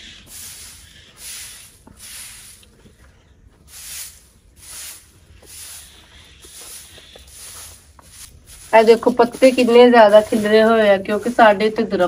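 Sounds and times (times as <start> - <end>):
broom sweeping leaves on concrete: 0.0 - 12.0.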